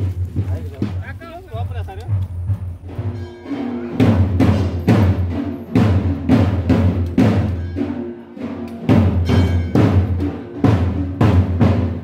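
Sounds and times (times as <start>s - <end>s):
music with heavy drum beat: 0.0s - 12.0s.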